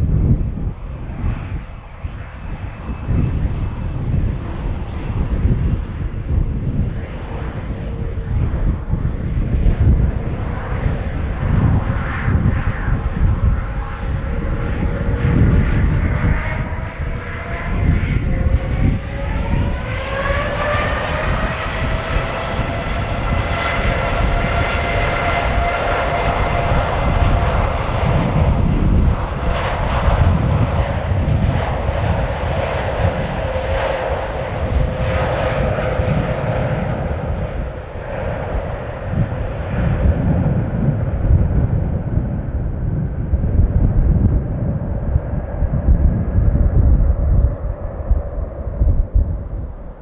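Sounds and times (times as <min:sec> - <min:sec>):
deep rumble: 0:00.0 - 0:50.0.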